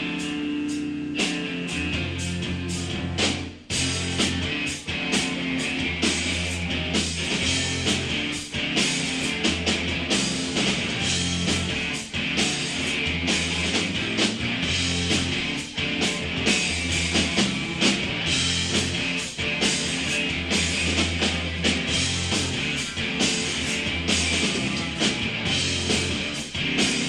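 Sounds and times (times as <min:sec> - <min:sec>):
bass guitar: 0:00.0 - 0:27.0
drum kit beat: 0:00.0 - 0:27.0
electric guitar: 0:00.0 - 0:27.0.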